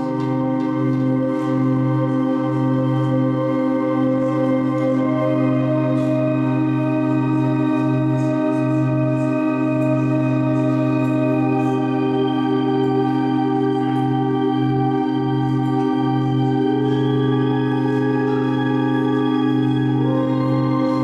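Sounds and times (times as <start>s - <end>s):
organ chord drone: 0.0s - 21.0s.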